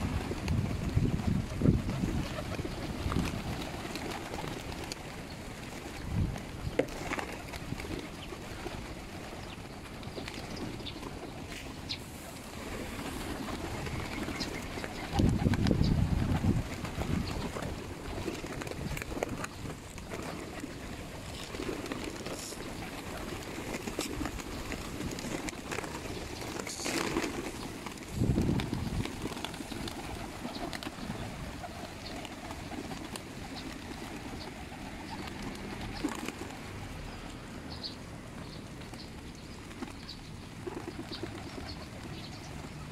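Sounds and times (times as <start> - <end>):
wings flapping: 0.0 - 37.0, 39.6 - 42.9.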